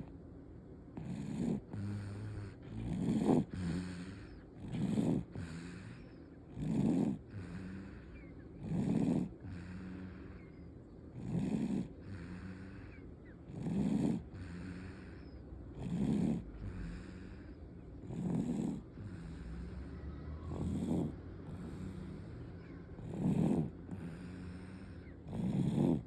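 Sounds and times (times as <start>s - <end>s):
quiet breathing: 0.0s - 26.0s
baby snoring: 1.0s - 10.6s, 11.2s - 26.0s.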